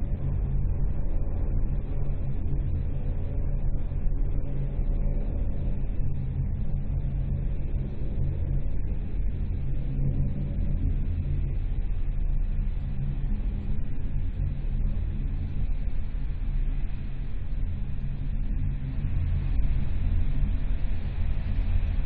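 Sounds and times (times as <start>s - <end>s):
rocket engines deep rumble: 0.0s - 22.0s.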